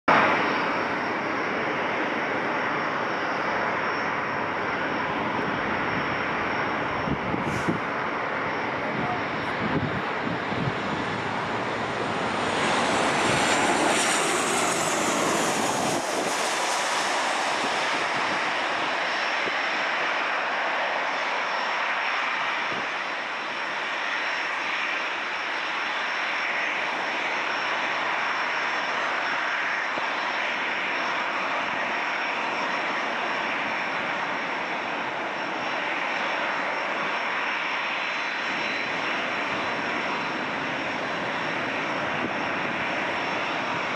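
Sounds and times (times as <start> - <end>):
jet engines passing overhead: 0.1 - 43.9.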